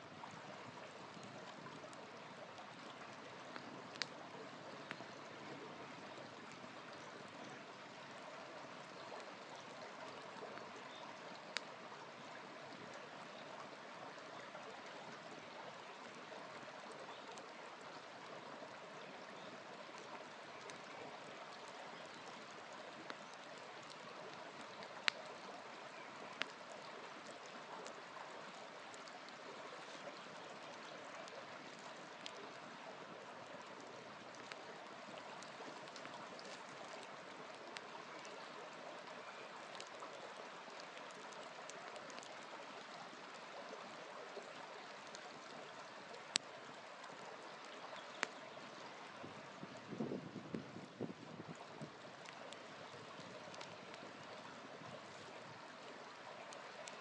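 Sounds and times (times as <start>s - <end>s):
shallow stream trickling: 0.0s - 57.0s
campfire crackling and popping: 0.1s - 57.0s.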